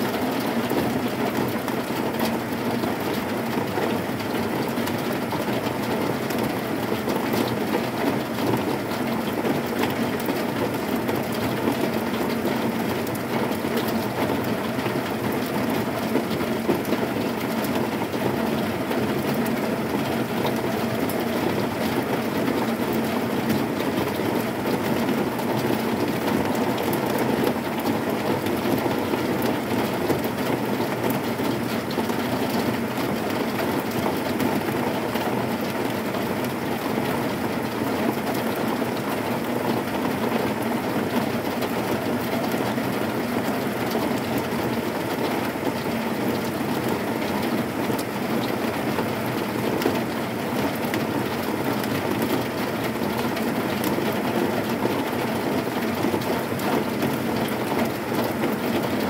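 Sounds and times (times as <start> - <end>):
heavy rain on a metal roof: 0.0 - 59.0.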